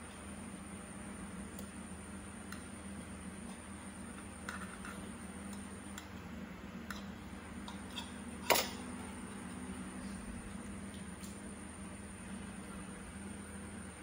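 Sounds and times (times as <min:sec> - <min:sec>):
aquarium pump hum: 0:00.0 - 0:14.0.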